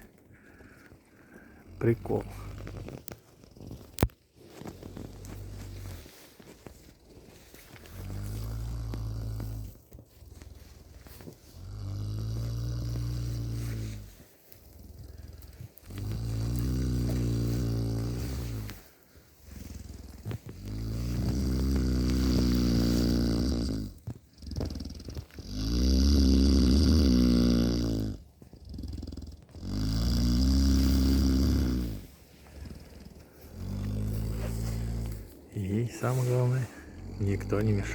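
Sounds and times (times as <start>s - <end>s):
cow snoring: 0.0s - 37.9s.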